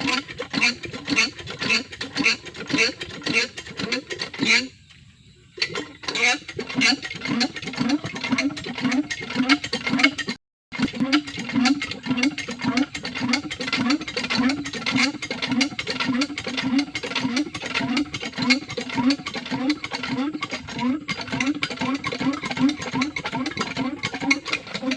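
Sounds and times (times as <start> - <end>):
water pump engine chugging: 0.0 - 4.8, 5.6 - 24.9.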